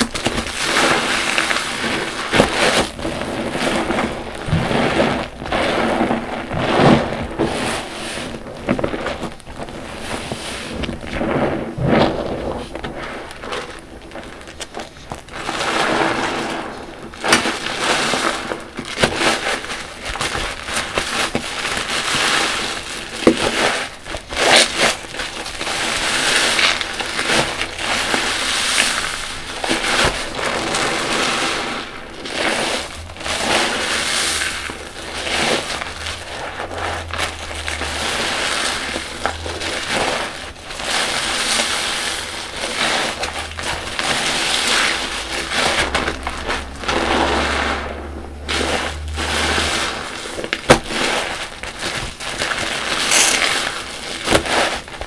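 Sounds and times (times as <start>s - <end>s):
foam crackling and fizzing: 0.0s - 55.0s
soapy sponge squelching: 0.0s - 55.0s.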